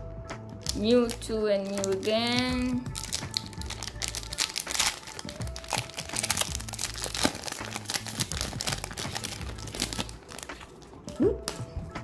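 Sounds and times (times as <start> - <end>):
background music: 0.0 - 12.0
foil wrapper tearing and crinkling: 0.6 - 10.9.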